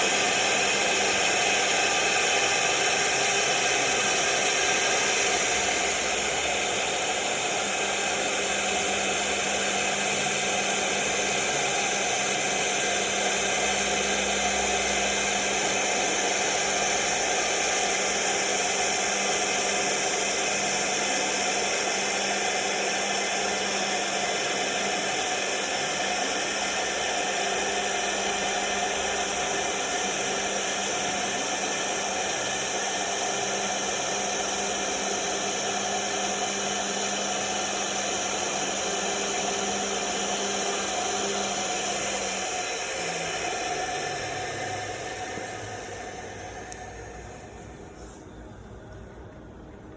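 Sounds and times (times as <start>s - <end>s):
router spindle cutting panel: 0.0s - 49.9s.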